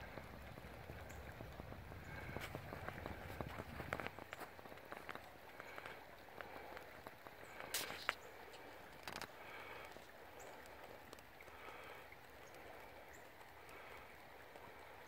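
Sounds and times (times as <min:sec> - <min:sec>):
low rush of moving water: 0:00.0 - 0:15.0.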